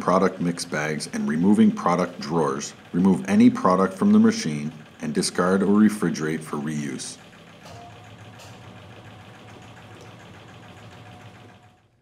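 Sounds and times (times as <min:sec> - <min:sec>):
freezer machine humming: 0:00.0 - 0:12.0.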